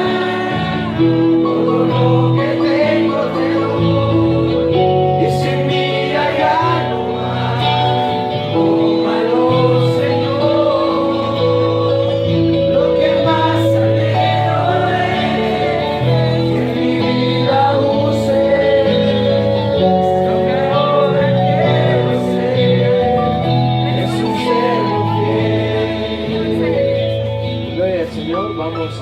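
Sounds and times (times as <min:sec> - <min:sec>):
voices singing: 0:00.0 - 0:27.8
held chords: 0:00.0 - 0:29.0.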